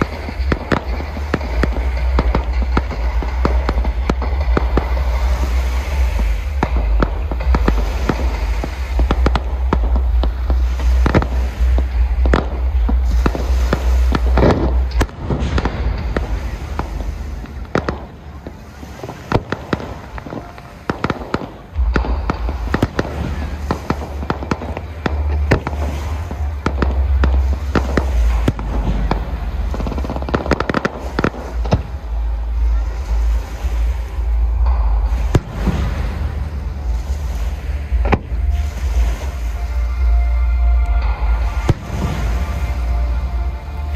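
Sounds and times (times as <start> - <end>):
fireworks bangs: 0.0 - 43.9
heavy low rumble: 0.0 - 43.9.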